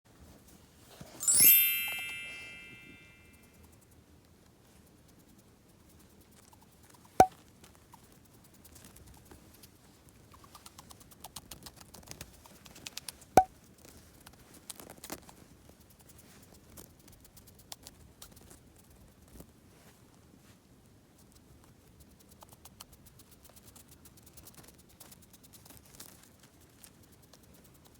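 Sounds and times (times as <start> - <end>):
hamster feet pattering and scratching: 4.3 - 20.1, 21.2 - 27.9.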